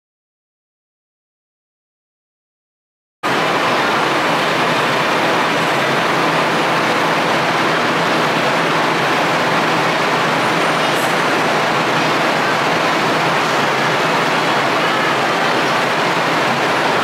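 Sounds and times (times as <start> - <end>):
tram equipment running: 3.2 - 17.0.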